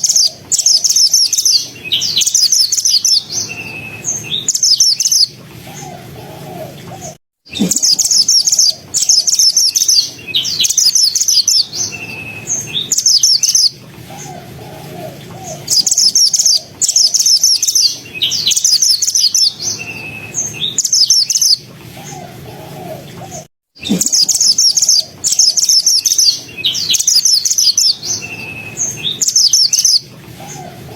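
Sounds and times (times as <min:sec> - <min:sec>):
bird chattering song: 0:00.0 - 0:30.9.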